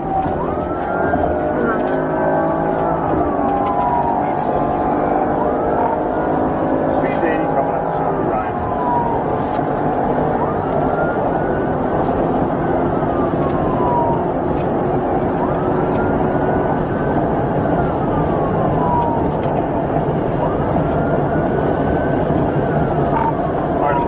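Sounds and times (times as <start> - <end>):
faint police siren wailing: 0.0 - 24.0
vehicle rushing at high speed: 0.0 - 24.0.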